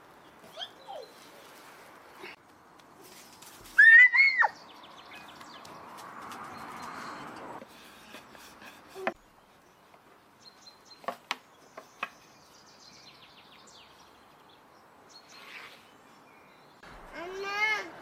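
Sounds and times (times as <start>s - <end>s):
birds chirping: 0.0s - 2.8s, 4.2s - 17.1s.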